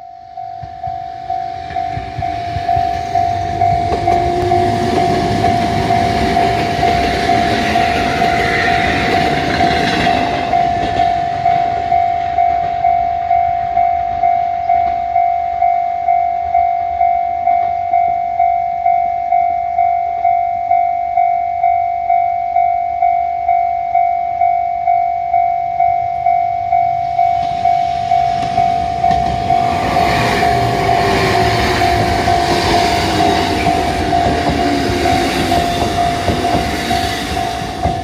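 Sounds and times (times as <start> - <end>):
electric train rumbling past: 0.0 - 38.0
level crossing warning bell: 0.0 - 38.0.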